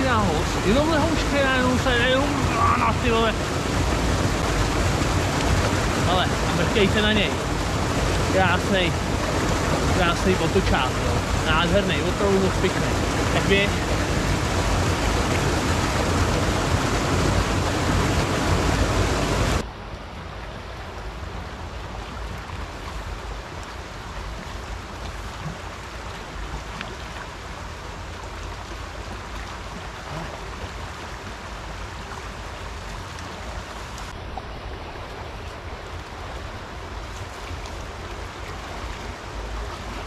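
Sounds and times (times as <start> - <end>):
river flowing: 0.0 - 40.0.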